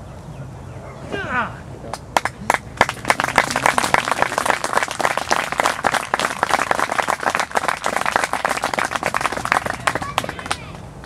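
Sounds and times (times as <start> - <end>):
audience clapping: 1.9 - 10.8.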